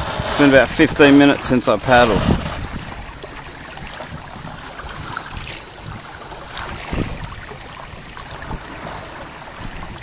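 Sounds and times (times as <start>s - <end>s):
water hissing along a hull: 0.0s - 10.0s
wind rumbling on microphone: 0.0s - 10.0s.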